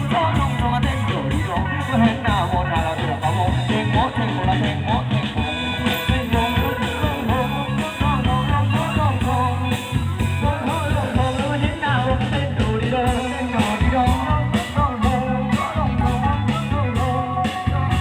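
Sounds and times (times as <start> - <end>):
bending lead melody: 0.0 - 18.0
drums and bass beat: 0.0 - 18.0.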